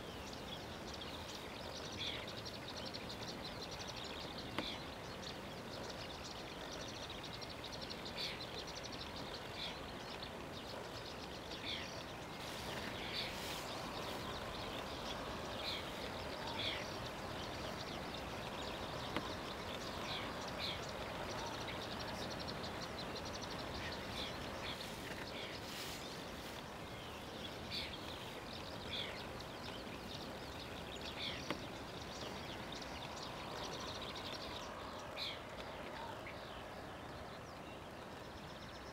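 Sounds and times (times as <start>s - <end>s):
bird calls and chirps: 0.0s - 38.9s
steady background noise: 0.0s - 38.9s.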